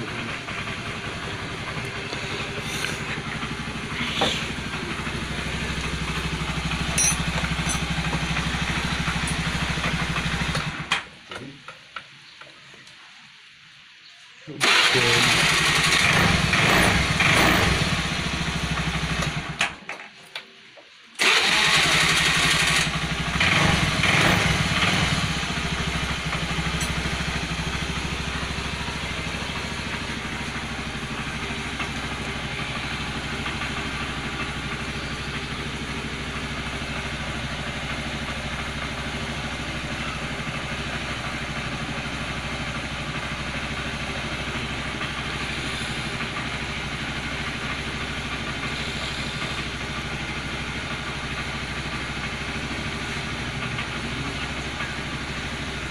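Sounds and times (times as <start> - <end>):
scooter engine revving and idling: 0.0 - 10.9, 14.6 - 19.7, 21.2 - 55.9.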